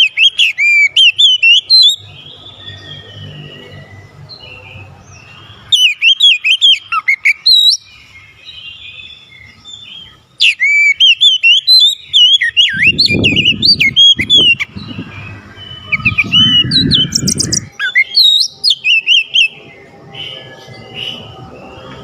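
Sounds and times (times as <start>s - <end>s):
bird singing whistles and warbles: 0.0s - 22.0s.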